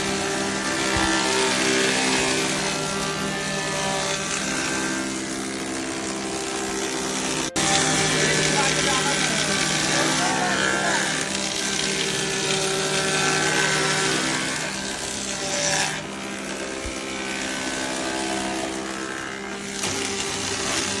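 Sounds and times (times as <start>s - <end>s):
planer cutters hissing: 0.0s - 21.0s
planer humming: 0.0s - 21.0s.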